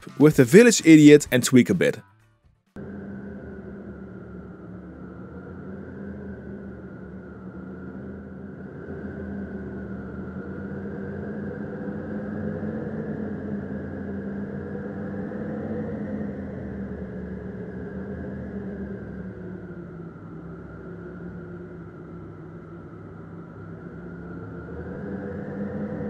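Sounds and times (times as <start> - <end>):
dull synthesized wind: 2.8 - 26.0.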